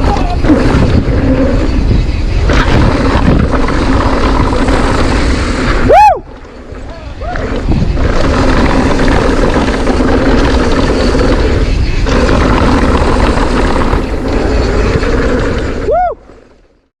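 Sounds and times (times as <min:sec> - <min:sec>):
wind rush: 0:00.0 - 0:16.7
bike trail rumble: 0:00.0 - 0:16.9.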